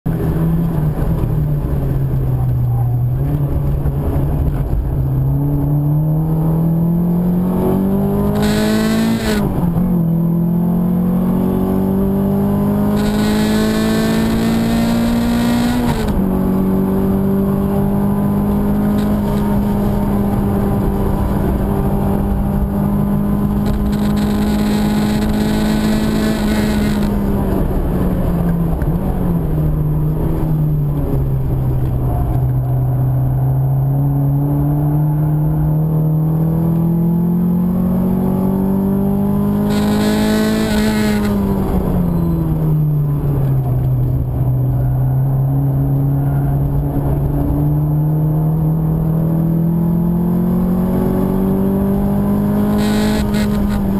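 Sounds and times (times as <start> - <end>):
car engine pulling through gears: 0.1 - 53.9.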